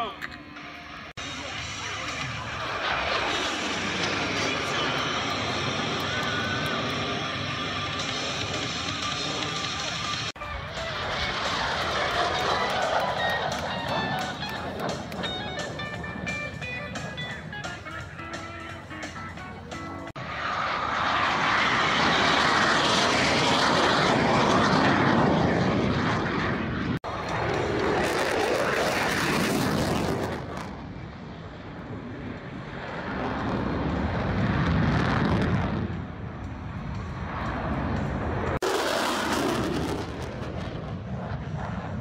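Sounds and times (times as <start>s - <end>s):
jet engine rush: 0.0s - 42.0s.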